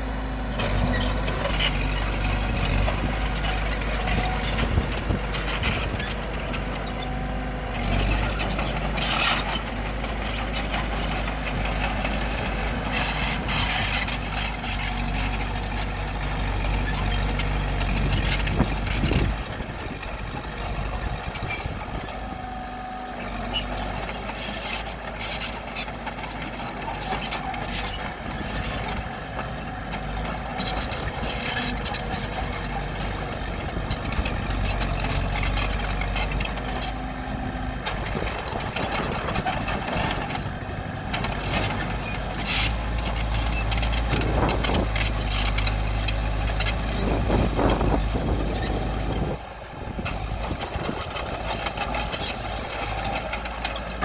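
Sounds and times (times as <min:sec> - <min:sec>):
bulldozer diesel engine: 0:00.0 - 0:54.0
rocks clanking and scraping: 0:00.6 - 0:22.3, 0:23.2 - 0:54.0.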